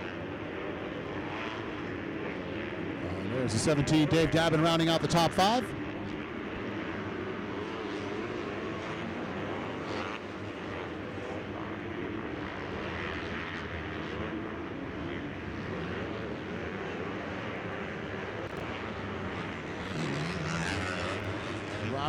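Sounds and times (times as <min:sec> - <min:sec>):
motocross bike engines running: 0:00.0 - 0:22.0.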